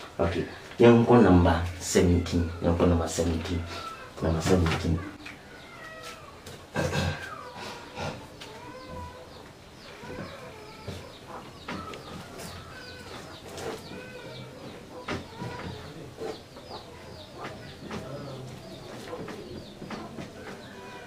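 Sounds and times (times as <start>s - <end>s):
birds chirping: 0.0s - 21.0s
lower-pitched bird calls: 2.0s - 21.0s.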